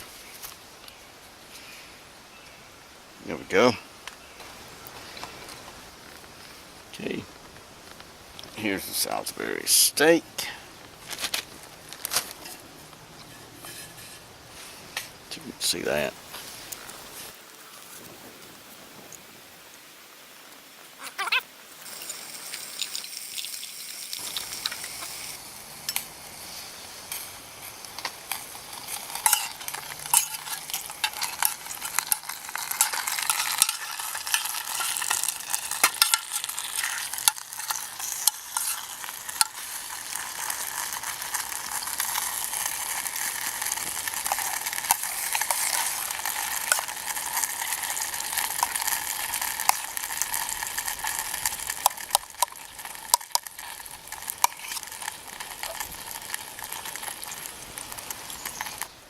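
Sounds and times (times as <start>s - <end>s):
meat sizzling with pops: 4.0s - 19.9s, 20.5s - 59.0s.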